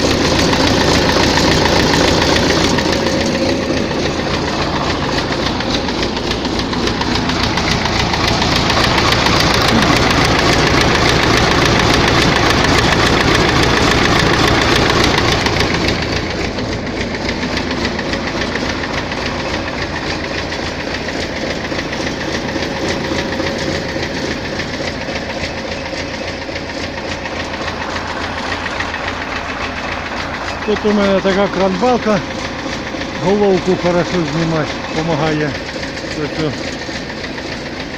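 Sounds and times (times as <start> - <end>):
diesel engine knocking: 0.0 - 37.9.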